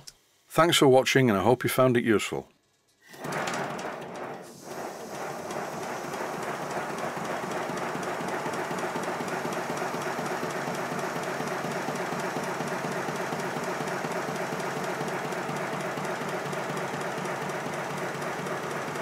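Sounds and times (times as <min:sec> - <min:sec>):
model steam locomotive clattering: 0:03.2 - 0:19.0.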